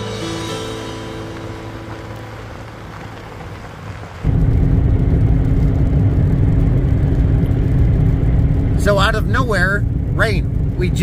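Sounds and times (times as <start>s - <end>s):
road and engine rumble in cabin: 2.0s - 11.0s.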